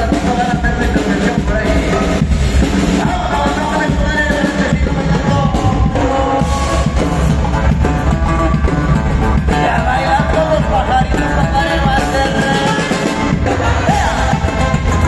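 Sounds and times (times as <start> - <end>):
live band dance music: 0.0 - 15.0.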